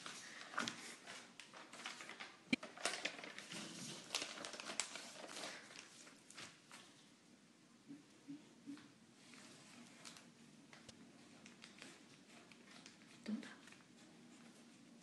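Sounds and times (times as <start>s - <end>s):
paper rustling and crinkling: 0.0s - 7.0s, 9.4s - 15.0s.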